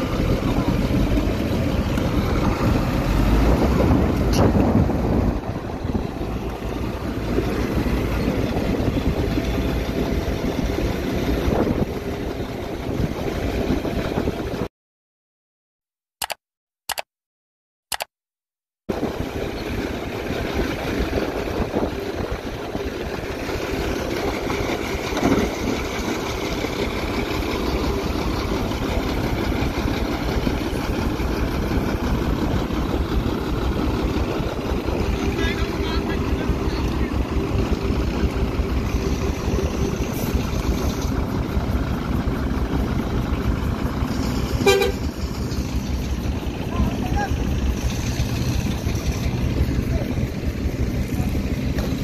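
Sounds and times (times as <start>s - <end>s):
heavy diesel machinery engines: 0.0s - 14.7s, 18.9s - 52.0s.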